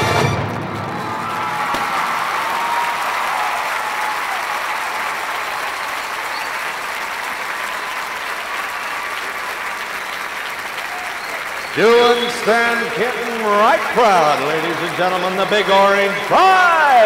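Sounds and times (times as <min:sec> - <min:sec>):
stadium crowd applauding and cheering: 0:00.0 - 0:17.0.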